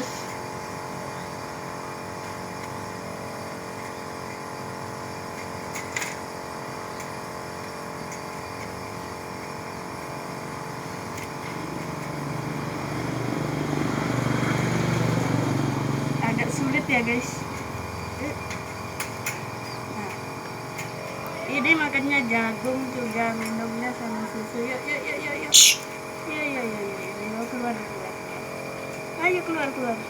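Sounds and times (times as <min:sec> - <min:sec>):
steady engine-like hum: 0:00.0 - 0:30.0.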